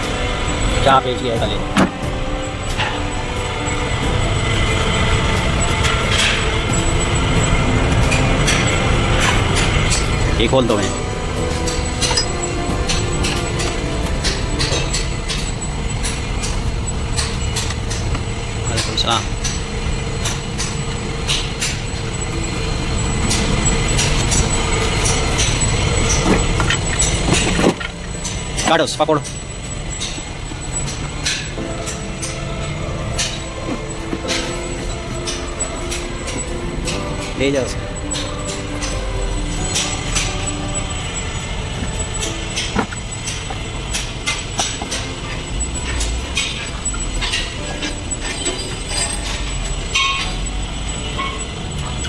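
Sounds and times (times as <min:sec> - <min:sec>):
vehicle engine rumbling: 0:00.0 - 0:52.0.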